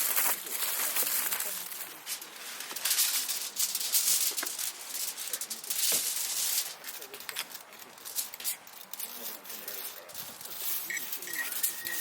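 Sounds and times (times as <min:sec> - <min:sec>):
crinkling and rattling handling: 0:00.0 - 0:12.0.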